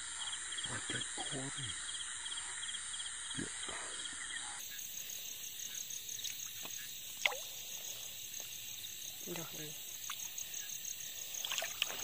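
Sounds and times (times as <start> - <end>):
frogs and insects chorus: 0.0 - 12.0.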